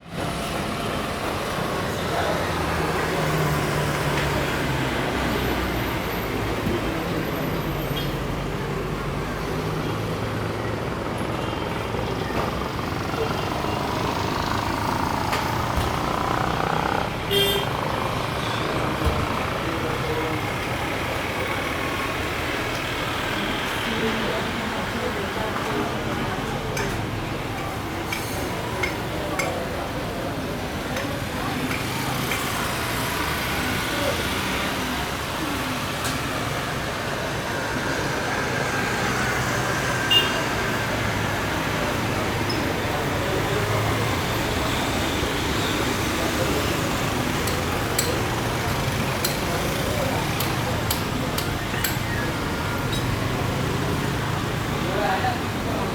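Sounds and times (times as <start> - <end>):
engine rumble: 0.0 - 55.9.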